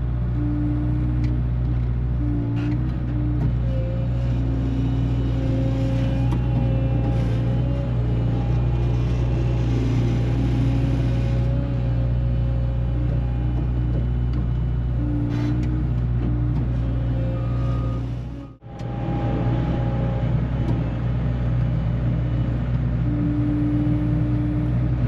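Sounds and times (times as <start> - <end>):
loader engine running: 0.0 - 25.0.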